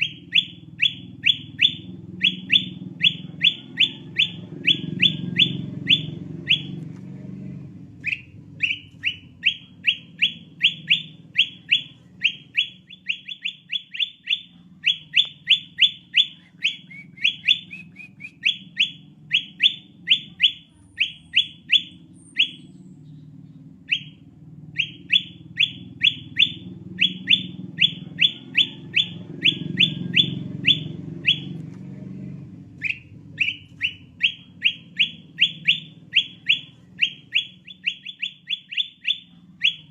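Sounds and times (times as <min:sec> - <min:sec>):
bird whistling calls: 0:00.0 - 0:06.8, 0:08.0 - 0:23.3, 0:24.8 - 0:31.6, 0:32.8 - 0:39.9.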